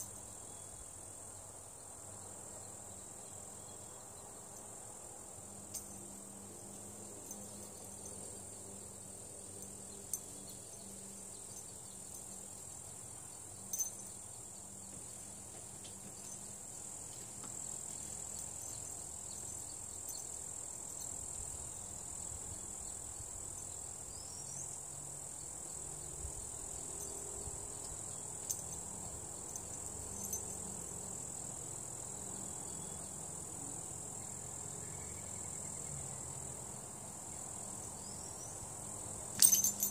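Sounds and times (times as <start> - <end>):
insects chirring chorus: 0.0 - 39.9.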